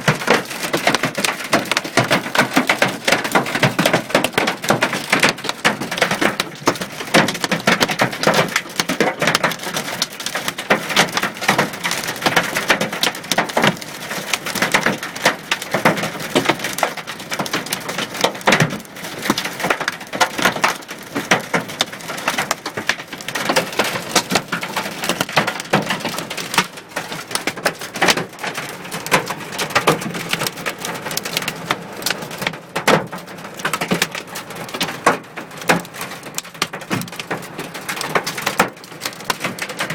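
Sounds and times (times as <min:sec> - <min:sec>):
hail hitting car body: 0:00.0 - 0:39.9
rush of falling ice and rain: 0:00.0 - 0:39.9.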